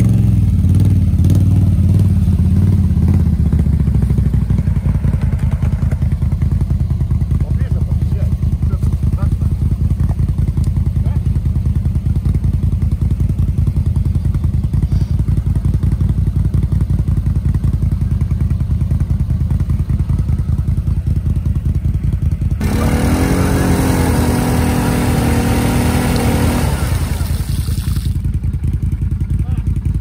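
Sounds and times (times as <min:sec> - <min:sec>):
vehicle engine idling and revving: 0:00.0 - 0:30.0.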